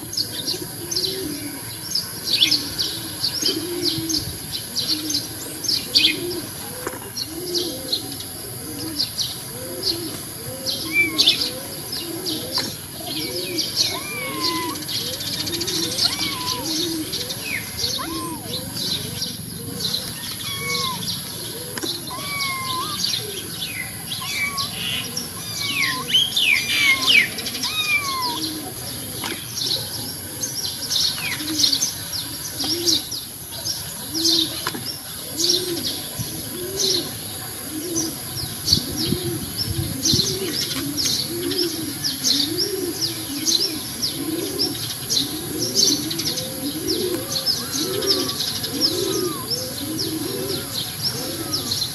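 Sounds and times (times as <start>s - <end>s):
dove cooing: 0.0s - 33.2s, 34.0s - 51.9s
small birds chirping: 0.0s - 51.9s.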